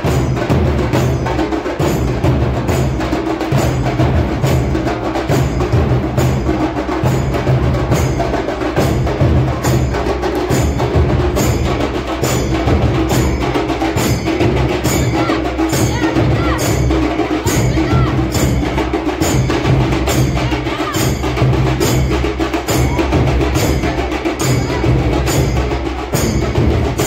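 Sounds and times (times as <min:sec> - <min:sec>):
drum band beating: 0:00.0 - 0:27.0.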